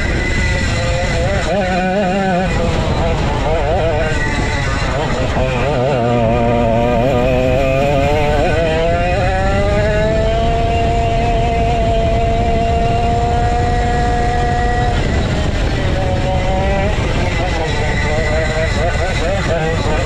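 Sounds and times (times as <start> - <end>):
go-kart engine revving: 0.0 - 20.0
low rushing noise: 0.0 - 20.0.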